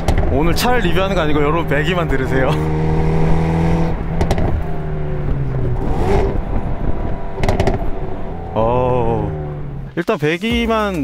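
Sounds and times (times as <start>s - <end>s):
car engine running: 0.0s - 10.0s
exhaust crackles: 0.0s - 11.0s.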